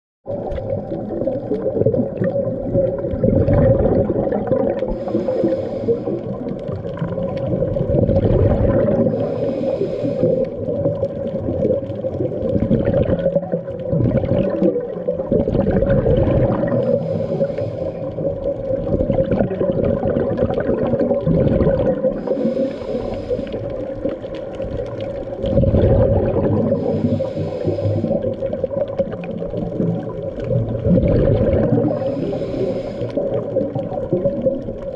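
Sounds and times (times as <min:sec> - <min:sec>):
rumbling water noise: 0:00.2 - 0:34.9
bubbly regulator exhalations: 0:00.3 - 0:34.9.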